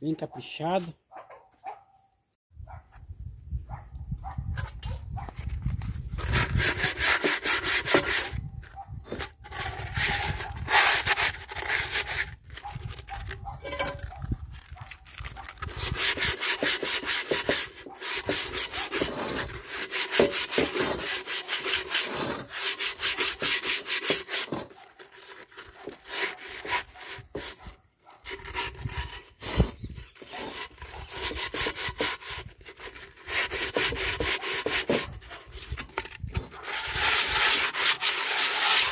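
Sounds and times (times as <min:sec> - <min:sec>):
sandpaper scraping cast iron: 0:06.2 - 0:08.4, 0:09.1 - 0:14.7, 0:15.5 - 0:38.9.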